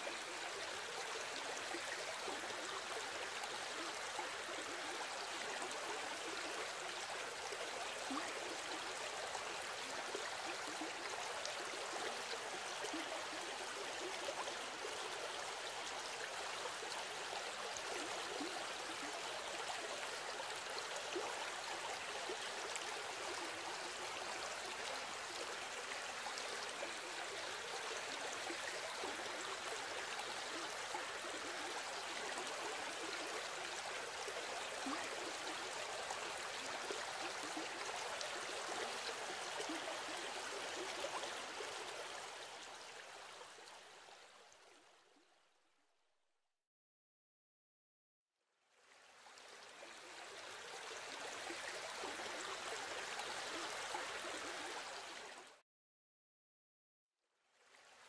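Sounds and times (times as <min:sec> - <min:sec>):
stream running water: 0:00.0 - 0:45.4, 0:48.7 - 0:55.6, 0:57.5 - 0:58.0.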